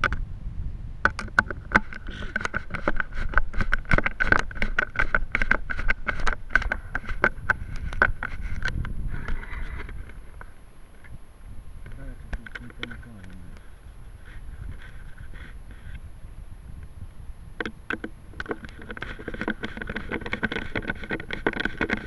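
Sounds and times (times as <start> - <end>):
faint steady whine: 0.0 - 22.0.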